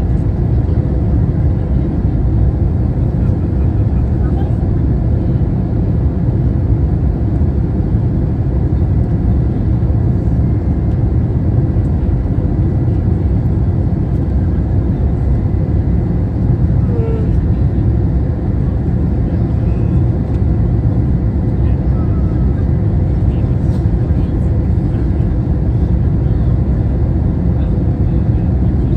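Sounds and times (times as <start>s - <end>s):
airliner cabin engine rush: 0.0s - 28.9s.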